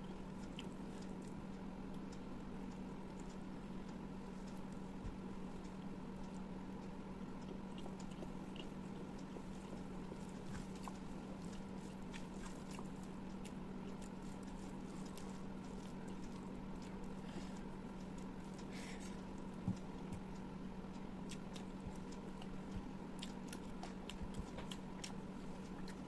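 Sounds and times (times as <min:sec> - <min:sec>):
close chewing of food: 0:00.0 - 0:26.0.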